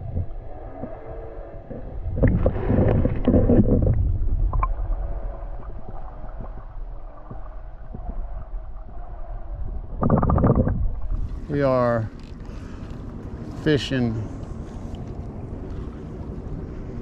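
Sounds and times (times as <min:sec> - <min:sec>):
low rumble: 0:00.0 - 0:17.0
muffled underwater sloshing: 0:00.0 - 0:17.0.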